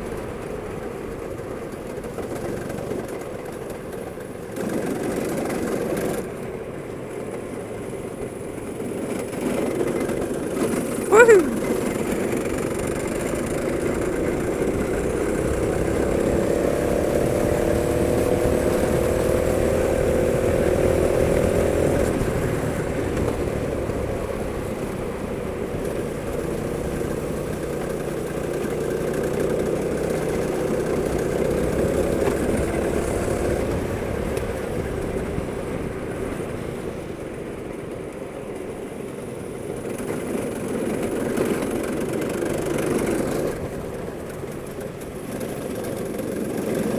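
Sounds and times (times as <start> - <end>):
go-kart engine running: 0.0 - 46.9.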